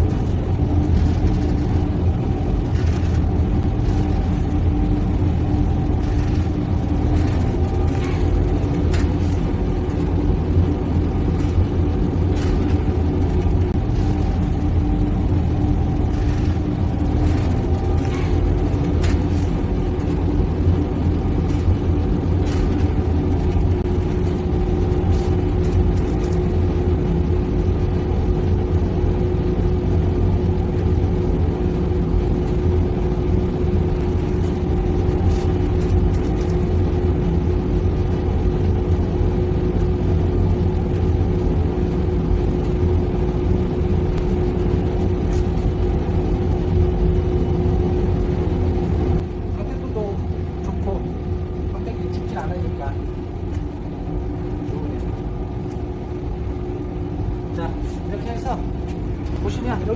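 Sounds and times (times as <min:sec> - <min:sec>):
car engine and road rumble: 0:00.0 - 0:59.9
faint constant hum: 0:00.0 - 0:59.9.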